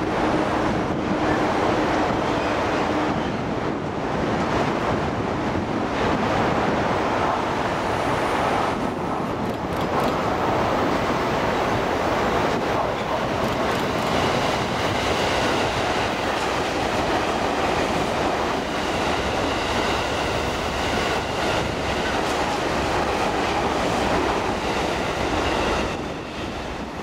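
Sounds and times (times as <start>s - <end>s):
train rushing past: 0.0s - 27.0s.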